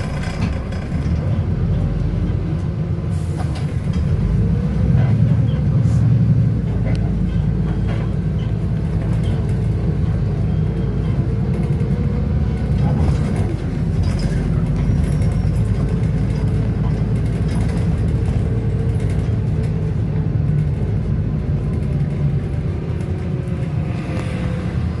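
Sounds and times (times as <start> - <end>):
bus engine rumbling: 0.0 - 25.0.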